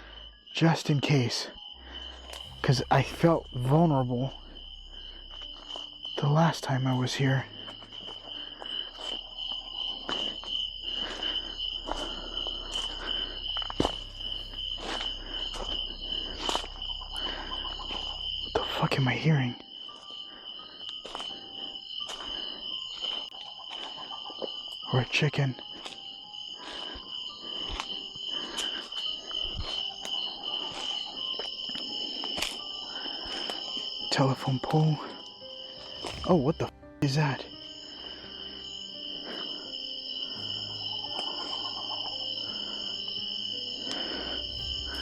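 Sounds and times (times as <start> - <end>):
night insect chorus trilling: 0.0 - 45.0
crunching footsteps: 1.7 - 45.0.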